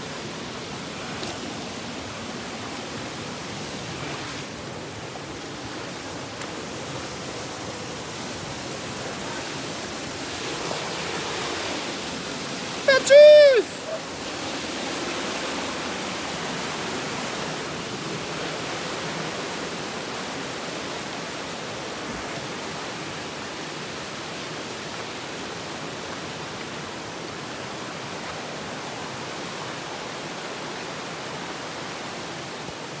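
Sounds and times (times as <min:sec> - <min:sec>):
stream rushing over rocks: 0:00.0 - 0:33.0.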